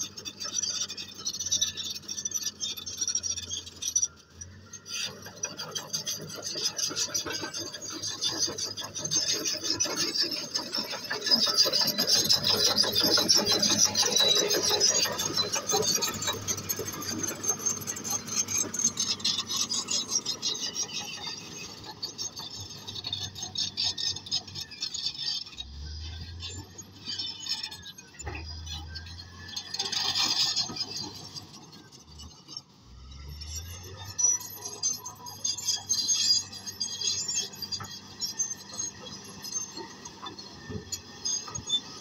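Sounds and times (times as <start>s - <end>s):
diesel engine running: 0.0s - 42.0s
steel tracks squealing and grinding: 0.0s - 42.0s.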